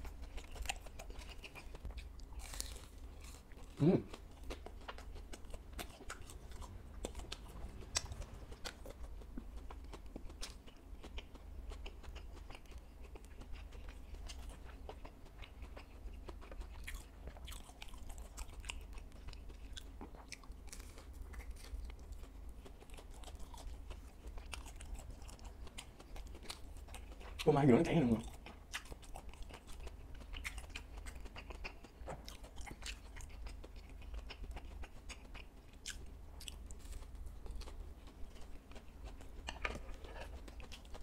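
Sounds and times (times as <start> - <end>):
chewing crunchy fried food: 0.0 - 41.0.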